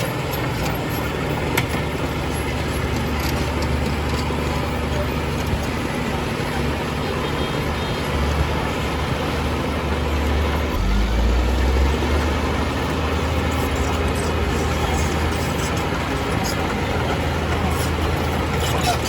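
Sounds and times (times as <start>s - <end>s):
heavy diesel engine droning: 0.0s - 19.0s.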